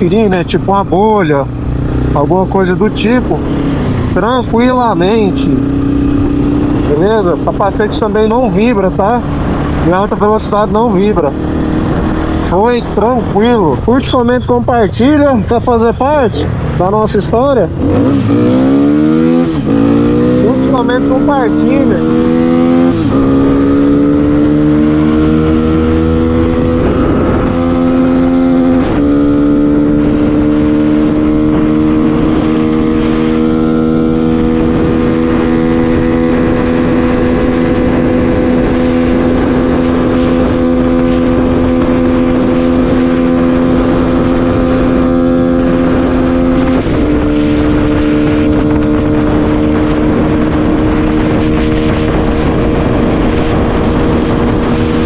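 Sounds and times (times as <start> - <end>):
motorcycle engine running hard: 0.0 - 55.0
wind and road noise: 0.0 - 55.0.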